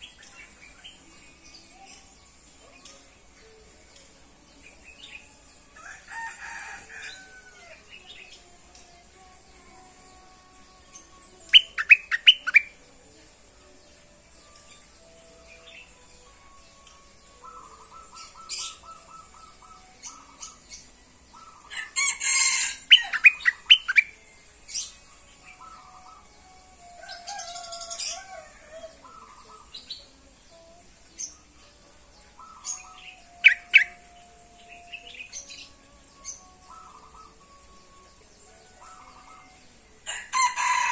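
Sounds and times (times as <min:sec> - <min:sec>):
bulbul singing chirping notes: 0:07.1 - 0:40.9.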